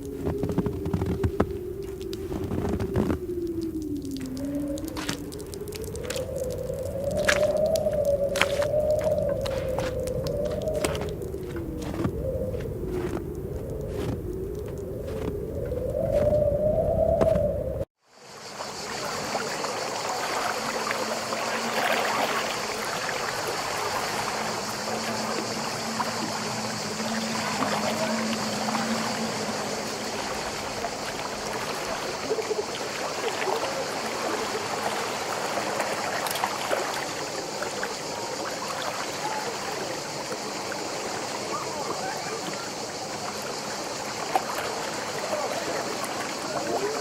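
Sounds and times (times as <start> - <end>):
stream water flowing: 0.0 - 16.5, 18.2 - 47.0.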